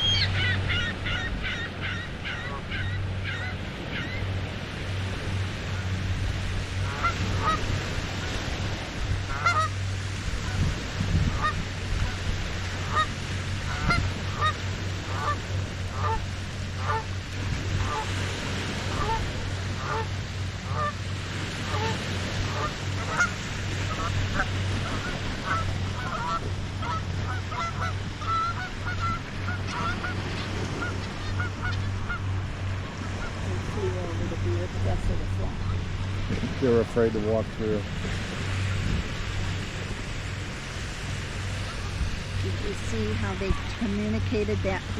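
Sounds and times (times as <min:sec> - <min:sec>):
geese honking: 0:00.0 - 0:36.2, 0:41.4 - 0:44.9.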